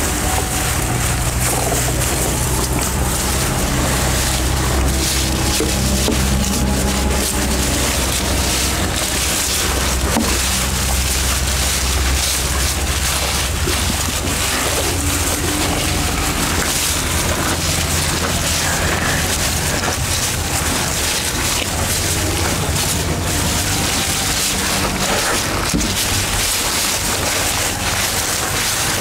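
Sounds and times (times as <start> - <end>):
cattle crunching grass: 0.0 - 29.0
low hum: 0.0 - 29.0
steady rushing noise: 0.0 - 29.0.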